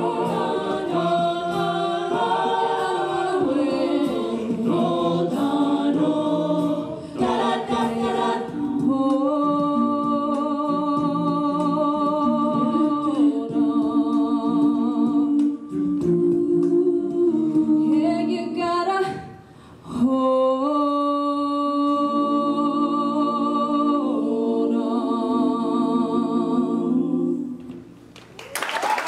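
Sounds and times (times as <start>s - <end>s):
a cappella group singing: 0.0s - 28.1s.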